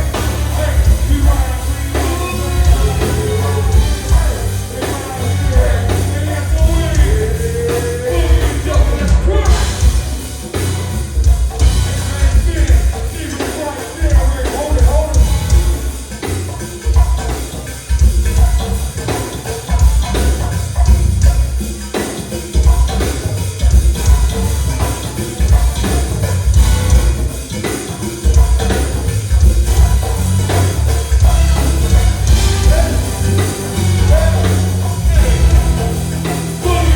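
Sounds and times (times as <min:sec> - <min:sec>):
heavy bass line: 0:00.0 - 0:19.1, 0:22.6 - 0:27.6, 0:28.2 - 0:36.9
drum kit: 0:00.0 - 0:36.9.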